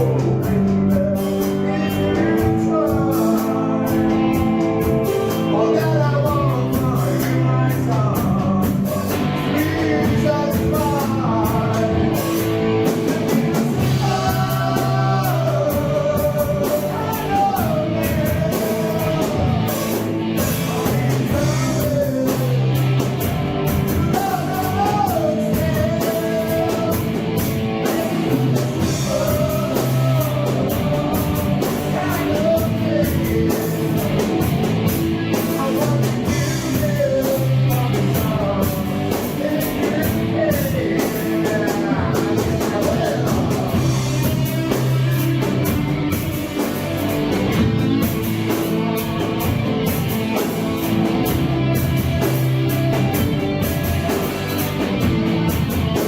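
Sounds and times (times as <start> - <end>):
person singing: 0.0 - 56.0
rock band playing slow song: 0.0 - 56.0.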